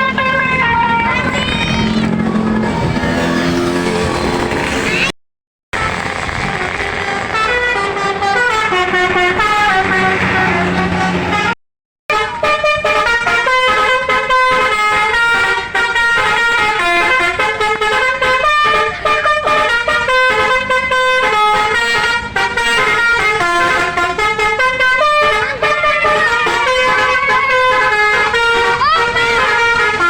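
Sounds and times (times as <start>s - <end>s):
multi-tone air horn melody: 0.0s - 5.1s, 5.8s - 30.0s.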